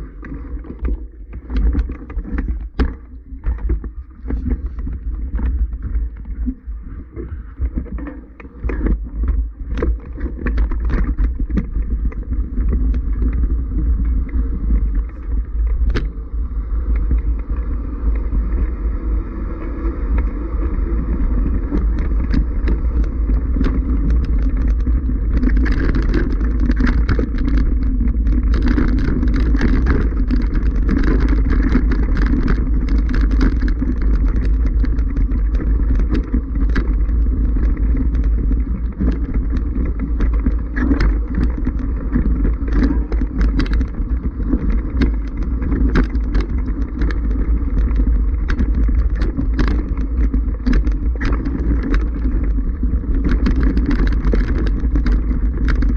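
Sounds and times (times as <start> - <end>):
wind rumble on microphone: 0.0 - 55.9
bike chain and frame rattling: 8.1 - 55.9.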